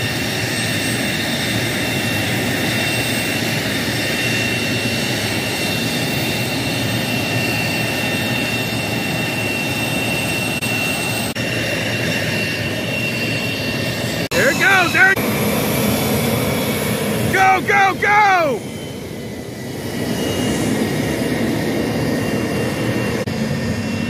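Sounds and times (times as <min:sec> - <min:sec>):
jet turbine whine: 0:00.0 - 0:24.0.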